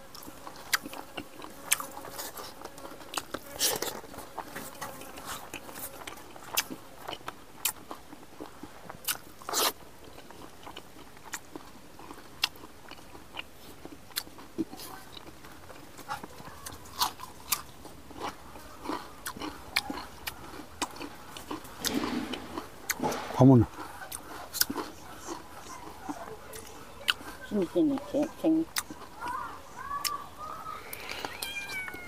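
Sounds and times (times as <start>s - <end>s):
person chewing and biting food: 0.0s - 27.4s, 28.7s - 29.4s.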